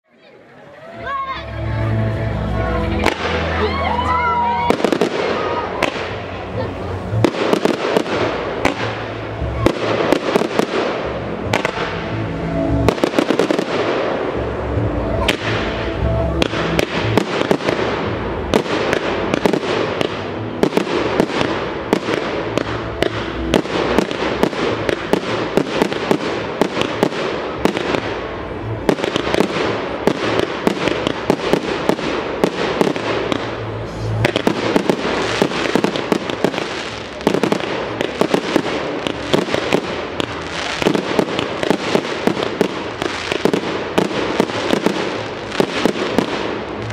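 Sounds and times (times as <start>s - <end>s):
fireworks bangs and crackles: 0.1s - 46.9s.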